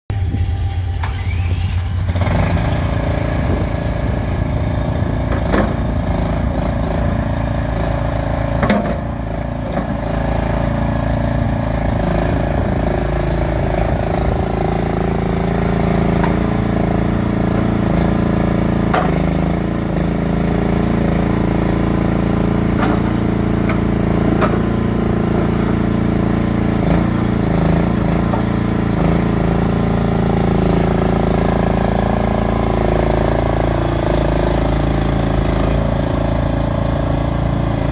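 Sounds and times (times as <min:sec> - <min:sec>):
skid steer engine running: 0:00.1 - 0:37.9.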